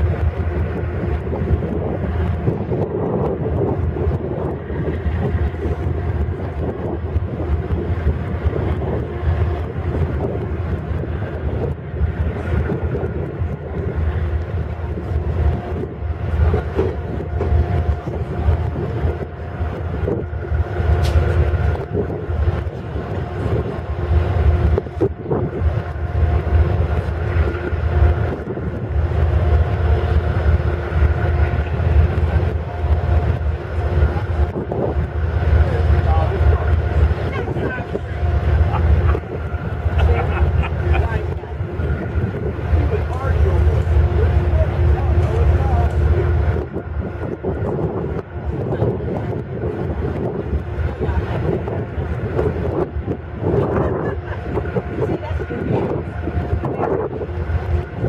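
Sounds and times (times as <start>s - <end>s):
diesel locomotive engines running: 0.0s - 58.0s.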